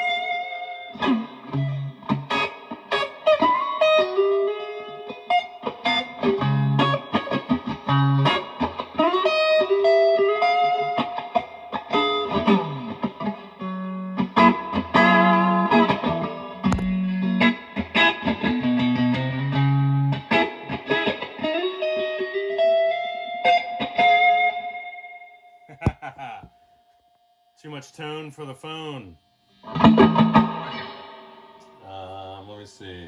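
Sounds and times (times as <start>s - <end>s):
electric guitar lead phrases: 0.0s - 25.2s, 29.0s - 31.7s.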